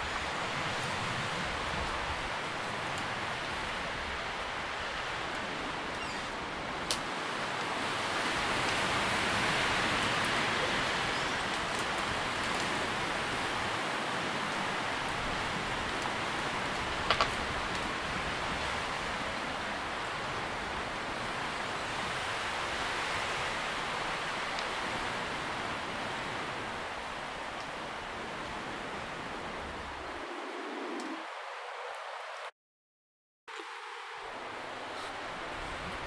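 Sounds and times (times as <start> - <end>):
leaves rustling in wind: 0.0 - 32.5, 33.5 - 36.0.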